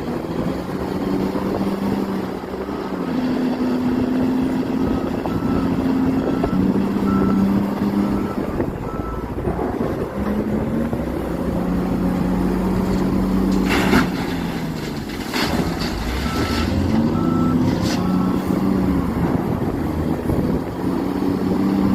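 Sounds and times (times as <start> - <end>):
diesel excavator engines: 0.0 - 21.9.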